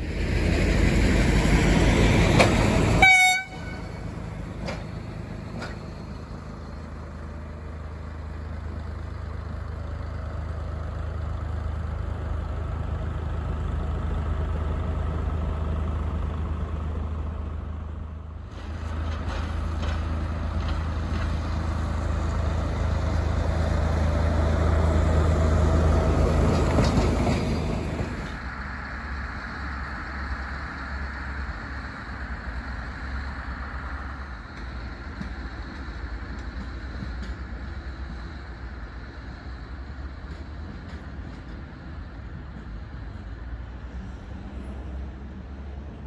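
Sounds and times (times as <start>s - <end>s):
diesel locomotive engine: 0.0s - 46.0s
track maintenance machine engine hum: 0.0s - 46.0s.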